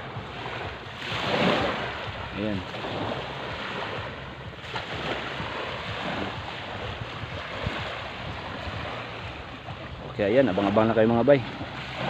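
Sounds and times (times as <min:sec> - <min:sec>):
small waves washing onto beach: 0:00.0 - 0:12.0
wind rumbling on microphone: 0:00.0 - 0:12.0.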